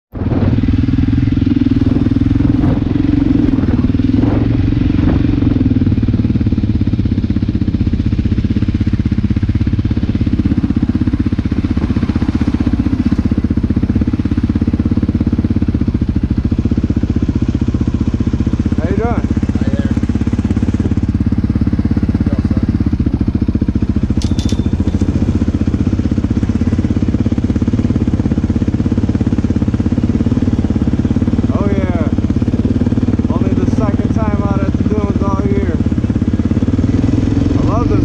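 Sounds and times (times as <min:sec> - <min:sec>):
quad engine running: 0:00.1 - 0:38.0.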